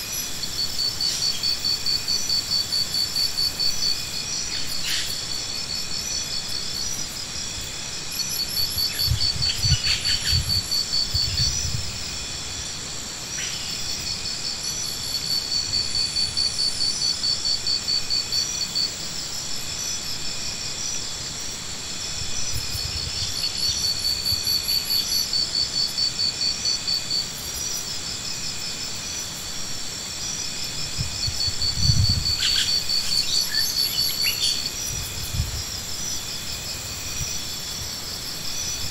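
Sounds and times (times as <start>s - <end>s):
insects trilling: 0.0s - 38.9s
steady high hiss: 0.0s - 38.9s.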